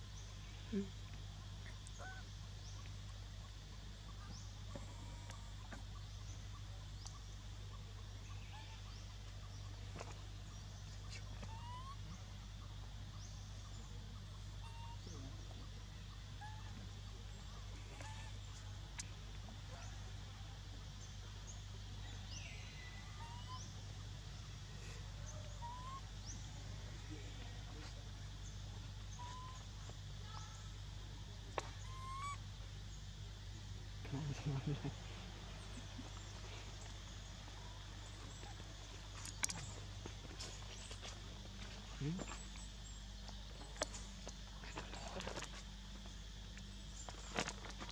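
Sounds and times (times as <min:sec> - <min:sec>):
low hum and hiss: 0:00.0 - 0:47.9.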